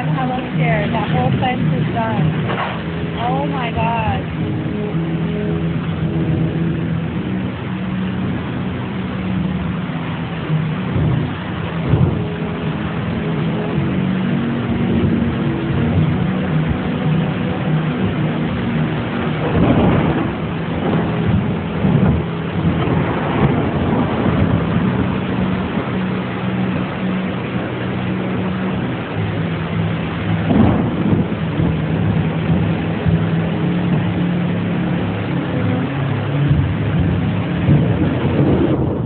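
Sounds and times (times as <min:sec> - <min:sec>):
floodwater rushing: 0:00.0 - 0:39.0
low hum: 0:00.0 - 0:39.0.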